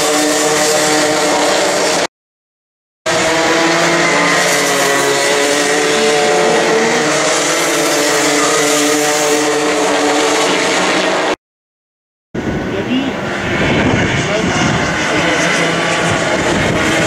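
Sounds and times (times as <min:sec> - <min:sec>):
kart engines racing: 0:00.0 - 0:02.1, 0:03.1 - 0:11.4, 0:12.6 - 0:17.0.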